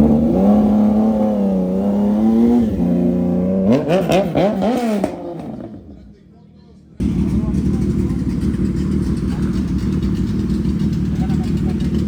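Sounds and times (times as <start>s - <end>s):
motorcycle engine revving: 0.0s - 6.1s, 7.0s - 12.0s.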